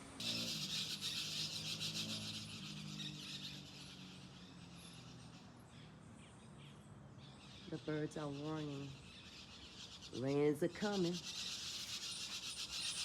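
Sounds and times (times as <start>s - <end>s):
birds chattering and calling: 0.0s - 13.0s.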